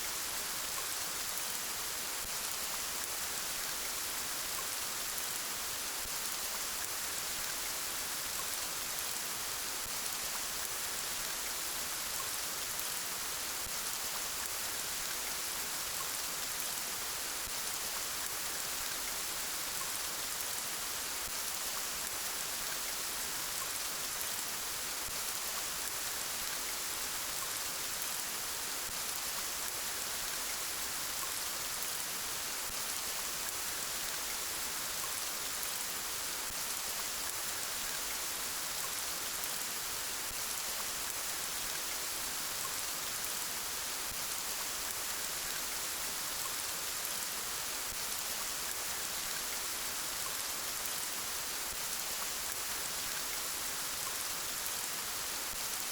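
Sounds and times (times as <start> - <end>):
gentle rain: 0.0 - 55.9.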